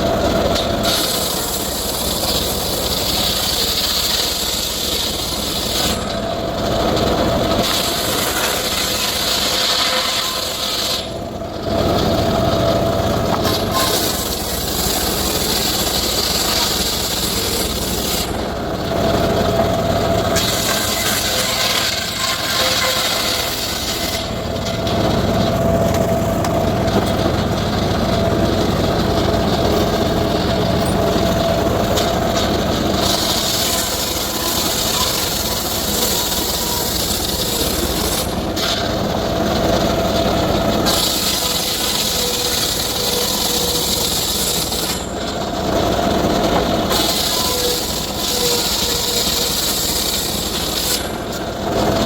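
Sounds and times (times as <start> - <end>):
circular saw cutting wood: 0.0 - 52.0.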